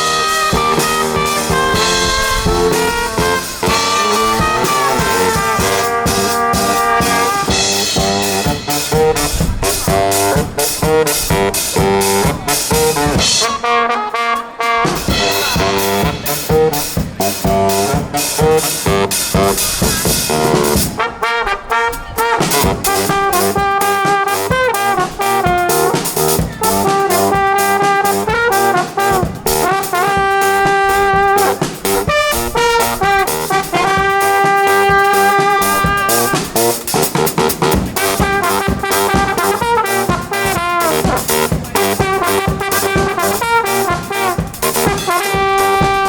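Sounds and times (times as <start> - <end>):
steady drumbeat: 0.0 - 13.7, 14.8 - 46.0
brass horns holding long notes: 0.0 - 46.0.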